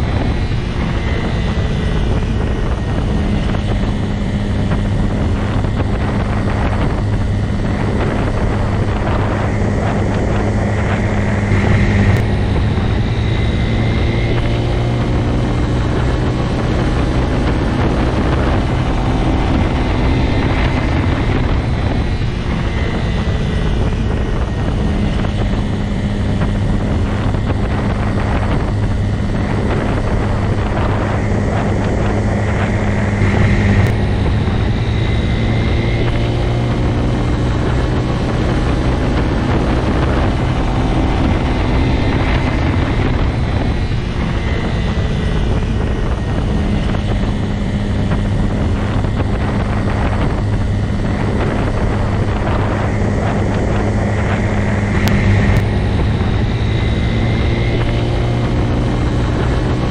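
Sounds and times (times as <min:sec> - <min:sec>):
motorcycle engine droning: 0:00.0 - 0:59.9
wind on microphone: 0:00.0 - 0:59.9.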